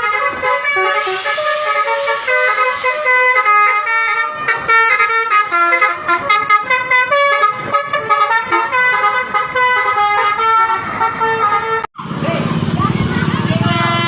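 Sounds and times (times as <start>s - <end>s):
bus horn playing a tune: 0.0s - 11.9s, 13.6s - 14.0s.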